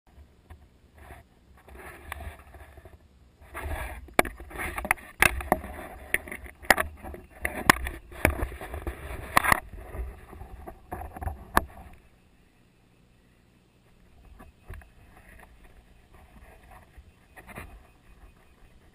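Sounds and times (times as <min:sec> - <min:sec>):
rustling at camera microphone: 0:00.1 - 0:12.2, 0:13.8 - 0:18.9.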